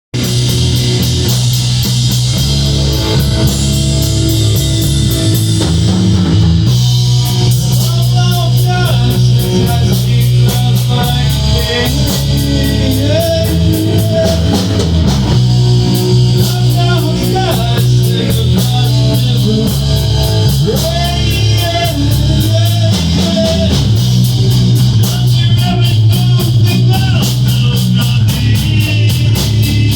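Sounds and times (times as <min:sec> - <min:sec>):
rock band playing: 0:00.1 - 0:29.9.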